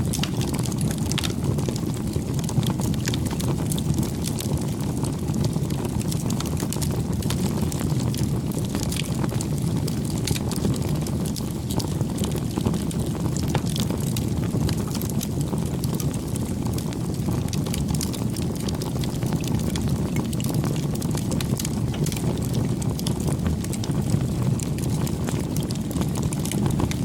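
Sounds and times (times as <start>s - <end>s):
burning wood crackling and popping: 0.0s - 27.0s
campfire low rumble: 0.0s - 27.0s.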